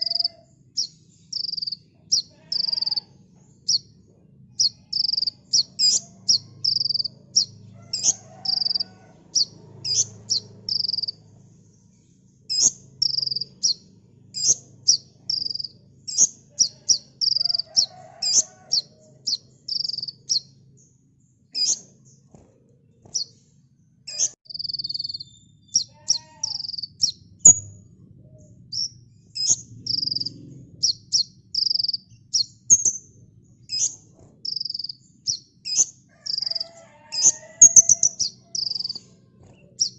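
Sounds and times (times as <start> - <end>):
bird singing high chirps and trills: 0.0 - 39.9
faint low hum: 0.0 - 39.9.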